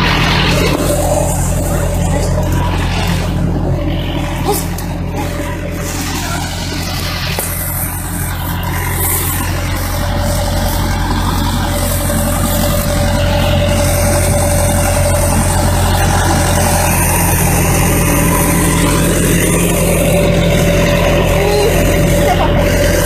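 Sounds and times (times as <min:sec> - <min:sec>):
heavy equipment engine running: 0:00.0 - 0:23.0.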